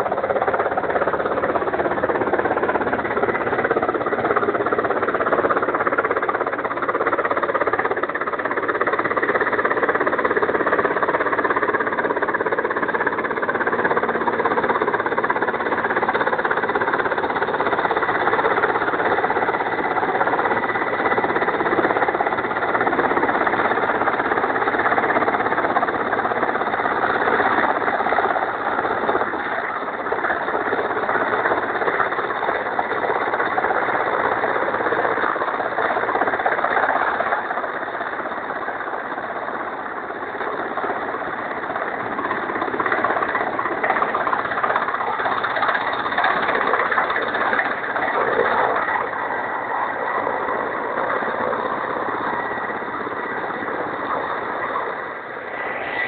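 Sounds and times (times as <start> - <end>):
helicopter rotor and turbine: 0.0 - 56.0.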